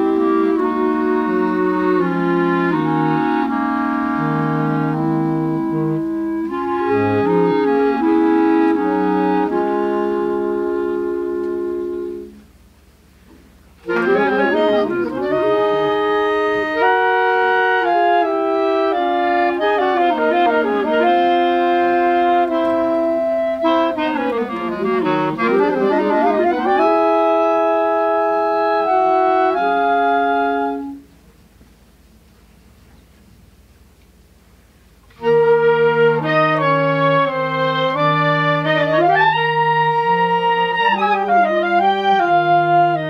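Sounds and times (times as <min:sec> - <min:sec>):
clarinet choir playing in harmony: 0:00.0 - 0:12.5, 0:13.8 - 0:31.2, 0:35.1 - 0:43.0.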